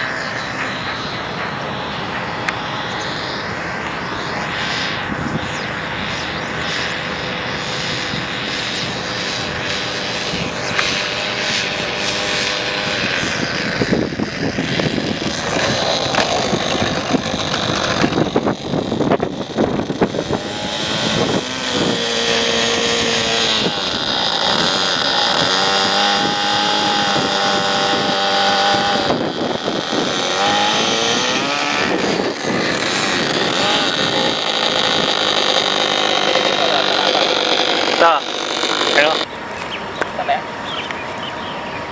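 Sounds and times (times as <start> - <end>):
model plane engine running: 0.0 - 41.9.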